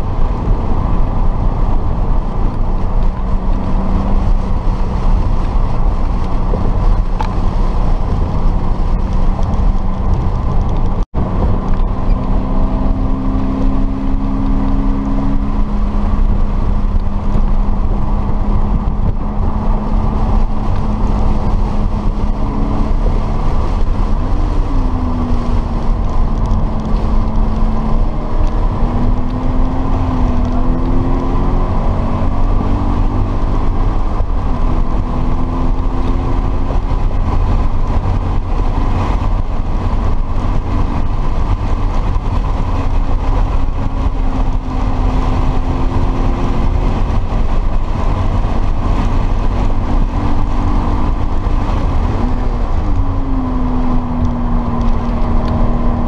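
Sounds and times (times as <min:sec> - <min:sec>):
car engine running: 0:00.0 - 0:56.0
road and tyre rumble: 0:00.0 - 0:56.0.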